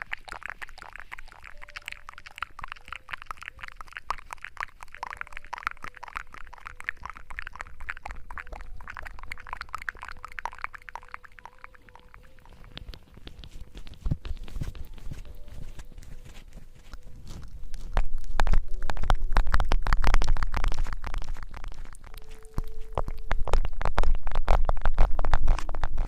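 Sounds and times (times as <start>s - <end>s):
lather crackling and squishing: 0.0s - 26.0s.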